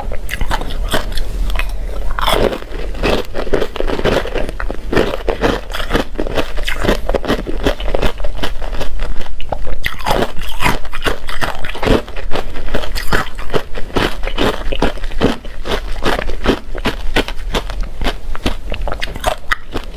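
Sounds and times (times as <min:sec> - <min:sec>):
ice being chewed: 0:00.0 - 0:19.9.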